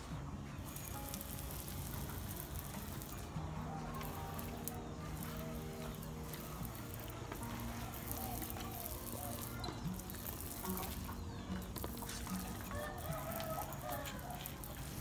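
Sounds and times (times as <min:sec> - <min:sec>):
sprayer nozzle hissing: 0:00.6 - 0:15.0.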